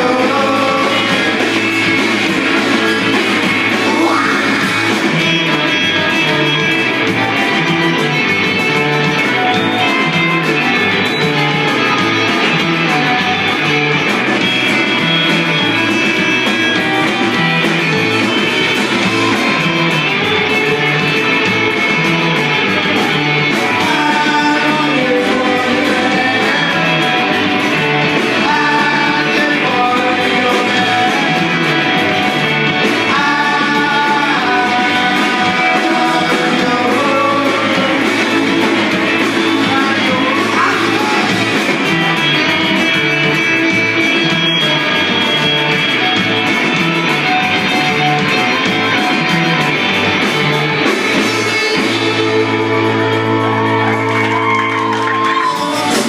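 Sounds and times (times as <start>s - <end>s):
person singing: 0.0s - 18.2s, 19.1s - 56.0s
live rock band playing: 0.0s - 56.0s.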